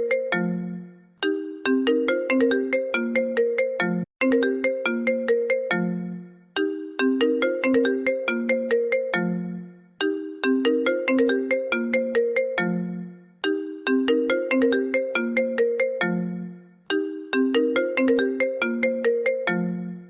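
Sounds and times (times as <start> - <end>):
phone ringtone melody: 0.0 - 20.0.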